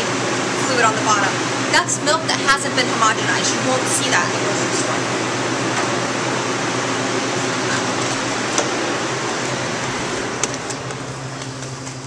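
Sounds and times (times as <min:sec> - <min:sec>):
cooler fan noise: 0:00.0 - 0:12.0
low hum: 0:00.0 - 0:12.0.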